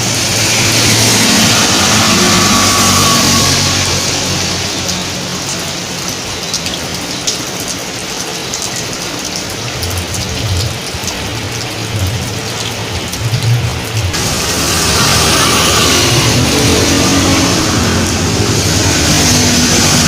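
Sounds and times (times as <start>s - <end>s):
rain on hard surfaces: 0.0s - 20.0s.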